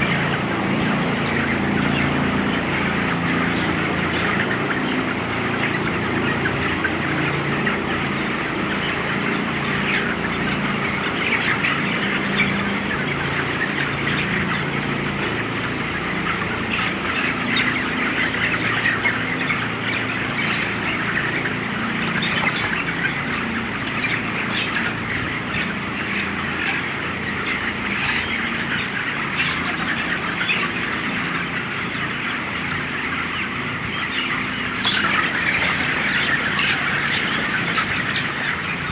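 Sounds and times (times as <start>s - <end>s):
chickens cheeping and clucking: 0.0s - 38.9s
ventilation fans humming: 0.0s - 38.9s.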